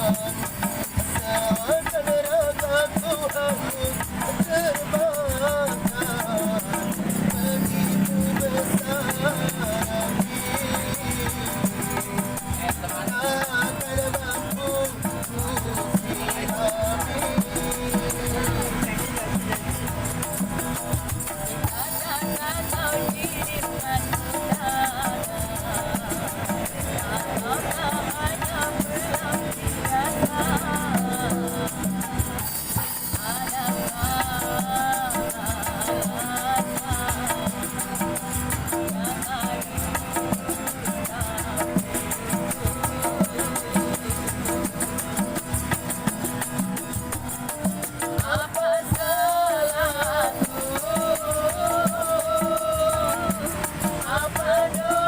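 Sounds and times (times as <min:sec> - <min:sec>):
person singing: 0:00.0 - 0:55.0
shaker rattling fast beat: 0:00.0 - 0:55.0.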